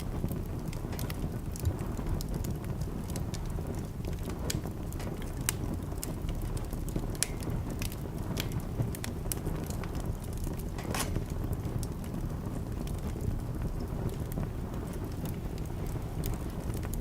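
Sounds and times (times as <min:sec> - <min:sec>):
fire snaps and pops: 0:00.0 - 0:17.0
low fire rumble: 0:00.0 - 0:17.0
wood fire crackling: 0:00.0 - 0:17.0.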